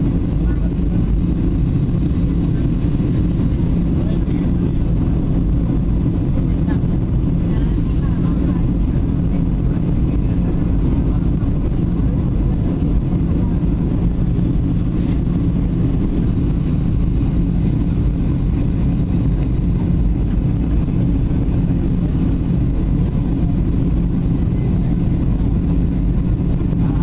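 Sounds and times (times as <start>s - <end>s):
constant hum: 0.0s - 27.0s
jet cabin rumble: 0.0s - 27.0s.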